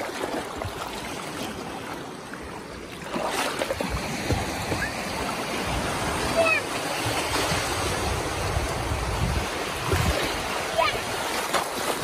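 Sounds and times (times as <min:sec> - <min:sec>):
seawater splashing: 0:00.0 - 0:12.0.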